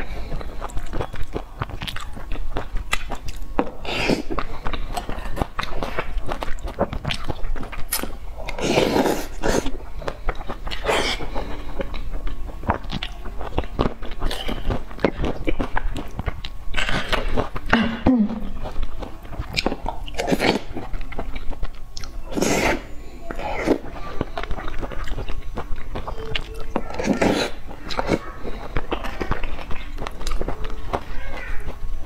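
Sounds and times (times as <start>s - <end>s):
close chewing: 0.0s - 32.0s.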